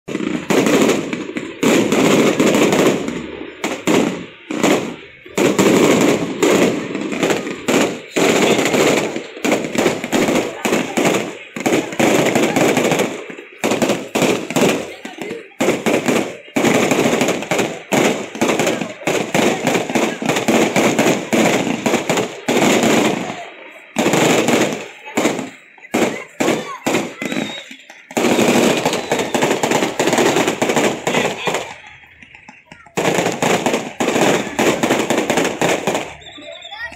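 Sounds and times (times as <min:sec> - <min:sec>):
fireworks bangs: 0:00.0 - 0:36.9.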